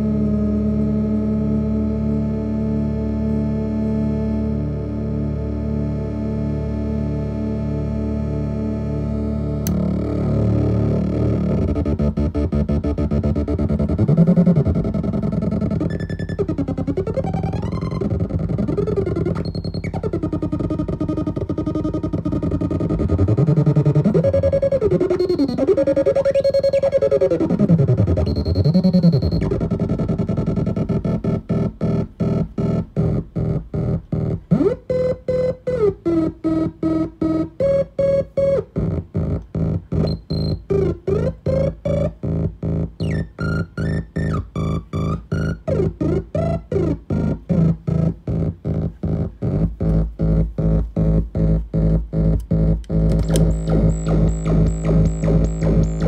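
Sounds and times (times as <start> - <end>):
synthesizer pitch gliding: 0.0 - 56.0
fast synthesizer pulsing: 9.2 - 56.0.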